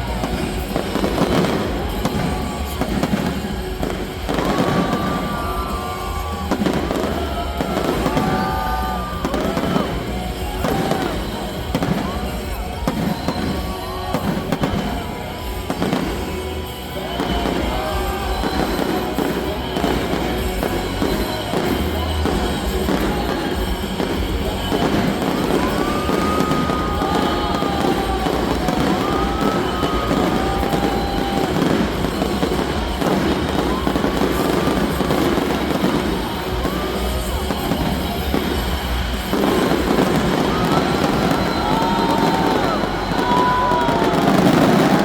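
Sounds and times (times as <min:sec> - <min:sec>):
fireworks bangs and crackles: 0:00.0 - 0:45.0
music playing: 0:00.0 - 0:45.0.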